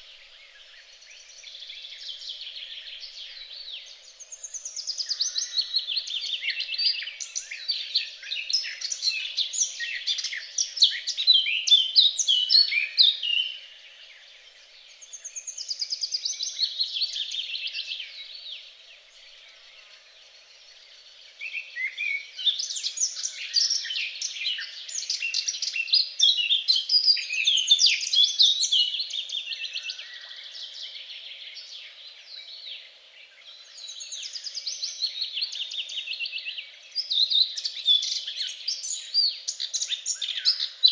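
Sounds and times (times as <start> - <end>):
songbirds warbling: 0.0 - 40.9.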